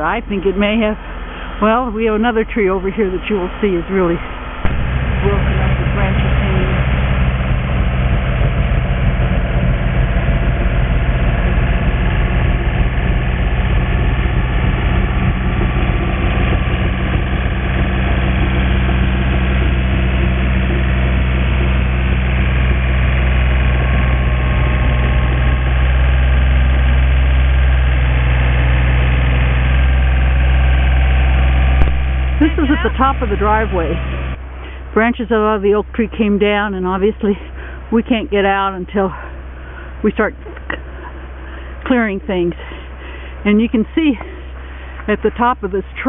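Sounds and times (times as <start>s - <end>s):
engine running steadily: 0.0s - 46.0s.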